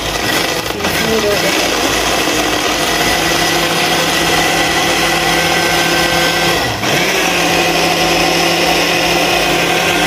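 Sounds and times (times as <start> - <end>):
blender crushing ice: 0.0 - 10.0.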